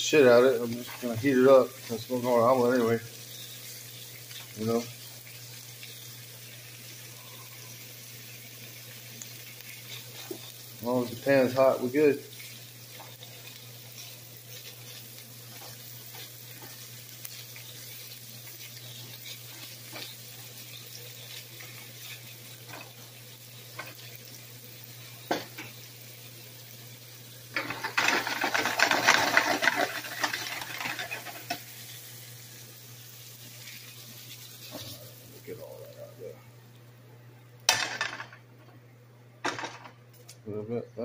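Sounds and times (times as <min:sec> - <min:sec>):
meat sizzling in a frying pan: 0:00.0 - 0:37.0.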